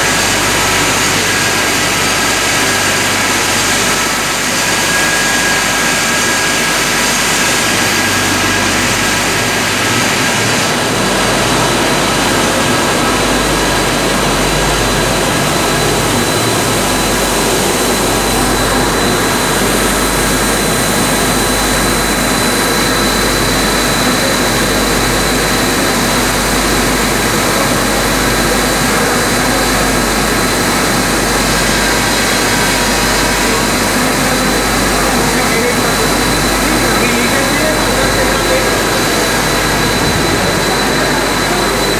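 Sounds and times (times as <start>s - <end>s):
loud steady machine noise: 0.0s - 41.9s
thin high machine whine: 0.0s - 41.9s.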